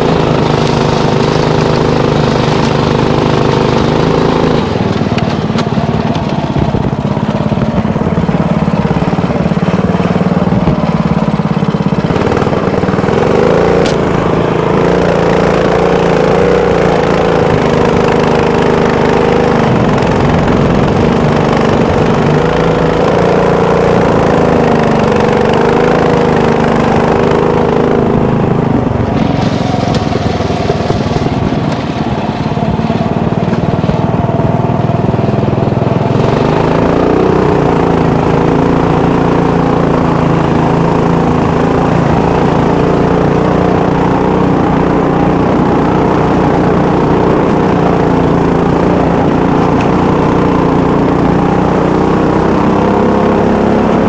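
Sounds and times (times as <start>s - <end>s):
small vehicle engine running: 0.0s - 54.0s.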